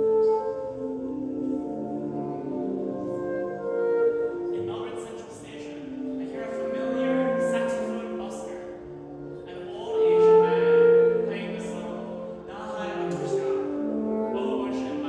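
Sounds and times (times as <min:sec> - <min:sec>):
saxophone quartet playing: 0:00.0 - 0:15.0.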